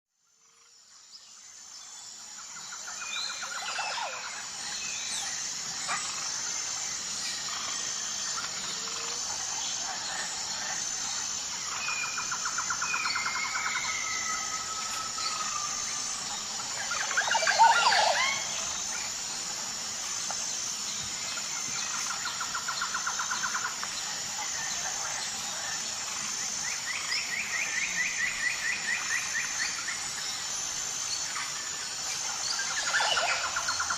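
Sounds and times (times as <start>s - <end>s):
insects buzzing: 0.2s - 33.9s
birds chirping and trilling: 2.2s - 33.9s.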